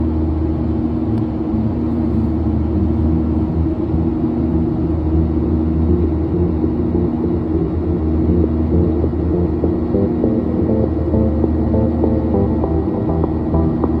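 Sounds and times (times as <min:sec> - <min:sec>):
aircraft cabin engine drone: 0:00.0 - 0:14.0
held hum tones: 0:00.0 - 0:14.0.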